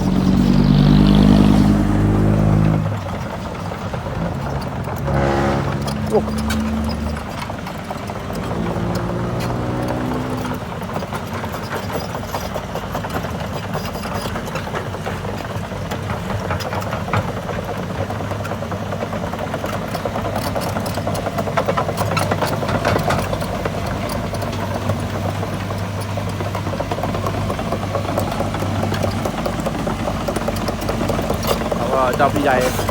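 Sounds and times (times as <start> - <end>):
excavator diesel engine droning: 0.0 - 32.9
rattles and clicks: 2.6 - 32.9.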